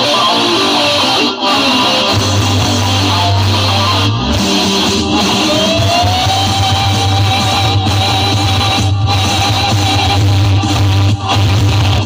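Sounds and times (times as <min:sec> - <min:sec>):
loud guitar music from speakers: 0:00.0 - 0:12.0
deep bass note: 0:02.2 - 0:12.0.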